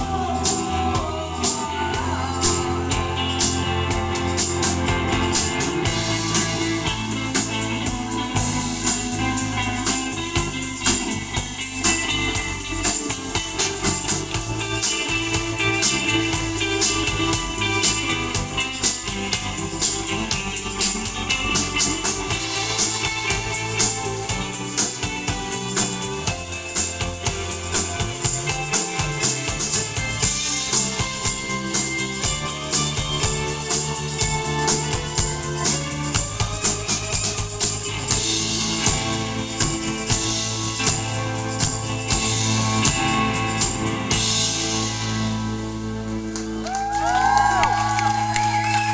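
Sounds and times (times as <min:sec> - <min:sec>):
drum kit beat: 0:00.0 - 0:45.6
electric guitar: 0:00.0 - 0:48.9.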